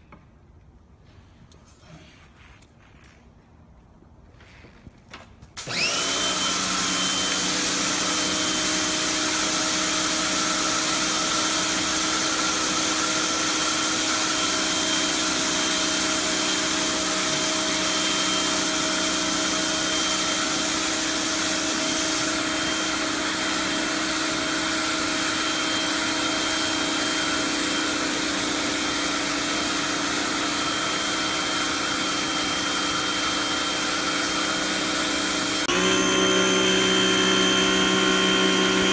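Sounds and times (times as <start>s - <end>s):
pressure washer motor whine: 5.6s - 38.9s.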